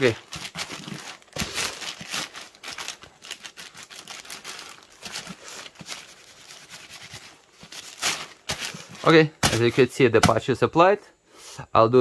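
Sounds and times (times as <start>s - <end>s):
fabric rustling and crinkling: 0.0s - 10.4s.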